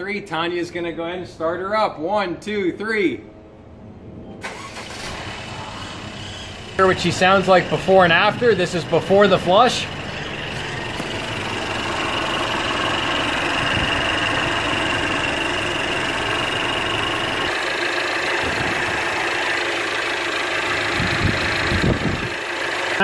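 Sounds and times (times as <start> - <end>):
car engine idling: 4.4 - 23.0.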